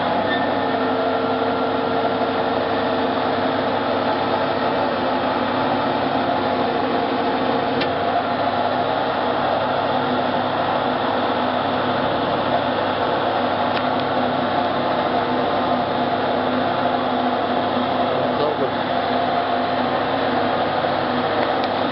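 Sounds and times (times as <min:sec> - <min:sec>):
hydraulic press motor humming: 0:00.0 - 0:21.9.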